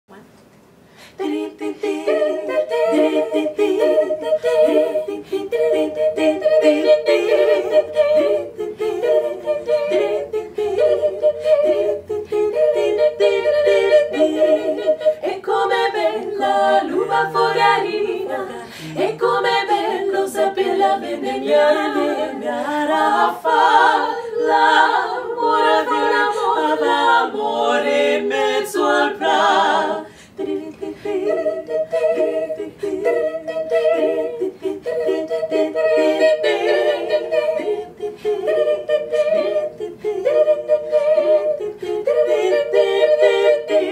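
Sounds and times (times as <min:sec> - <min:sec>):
women singing a cappella: 0:01.0 - 0:43.9.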